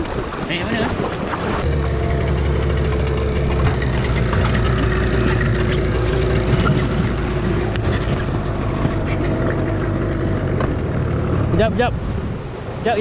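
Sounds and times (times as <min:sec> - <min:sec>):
small outboard motor running: 0:01.2 - 0:12.6.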